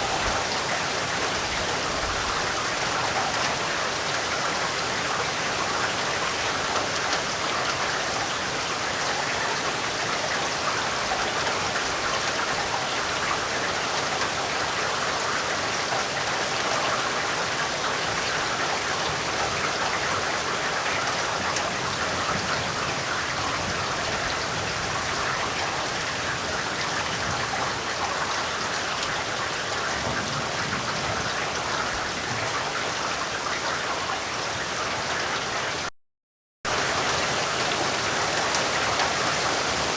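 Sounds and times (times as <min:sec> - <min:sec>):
steady rain: 0:00.0 - 0:35.9, 0:36.7 - 0:39.9.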